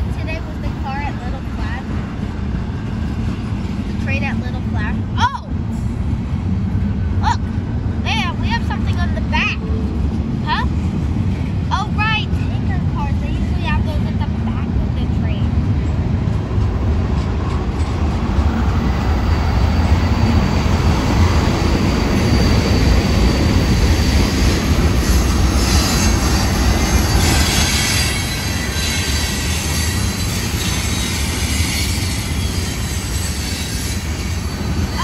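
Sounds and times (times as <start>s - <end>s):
freight train rolling on rails: 0.0s - 35.0s.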